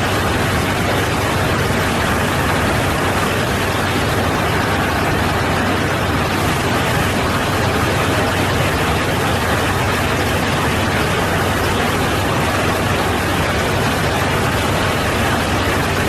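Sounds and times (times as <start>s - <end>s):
aircraft engine rushing noise: 0.0s - 16.0s.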